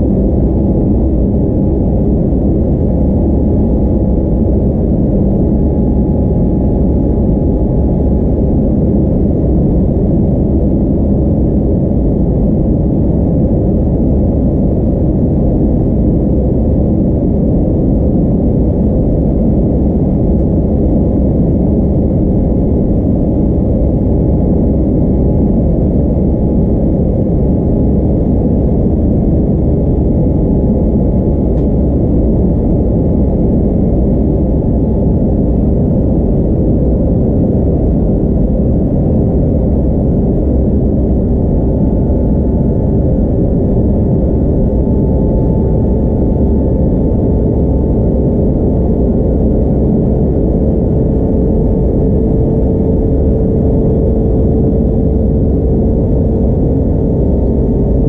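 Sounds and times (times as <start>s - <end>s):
airplane cabin engine noise: 0.0s - 58.0s
faint steady whine: 0.0s - 58.0s.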